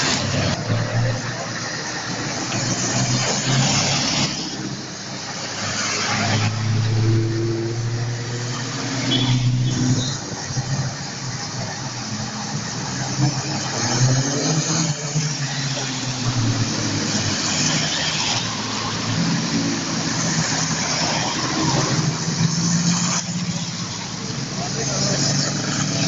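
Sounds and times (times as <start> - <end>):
car engines driving past: 0.0 - 26.0
tyres hissing on wet asphalt: 0.0 - 26.0.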